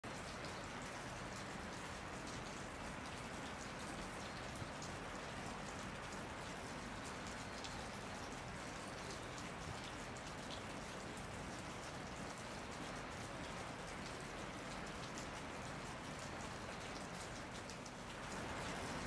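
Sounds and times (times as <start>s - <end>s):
steady rain: 0.0s - 19.0s
raindrops ticking: 0.1s - 19.0s.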